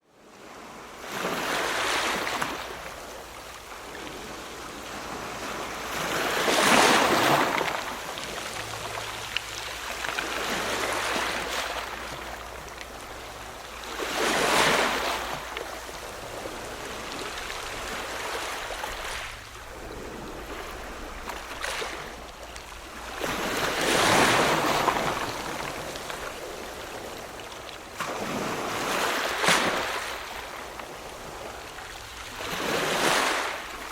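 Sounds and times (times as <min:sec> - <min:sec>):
ocean waves breaking: 0:00.2 - 0:33.9
surf hiss: 0:00.2 - 0:33.9.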